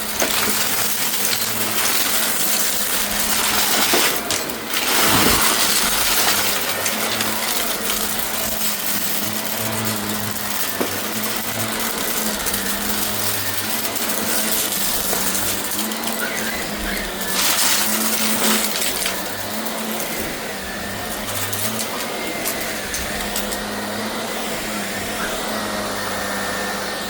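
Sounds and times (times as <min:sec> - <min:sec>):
clicks and rattles: 0:00.0 - 0:23.7
vacuum cleaner running: 0:00.0 - 0:27.0.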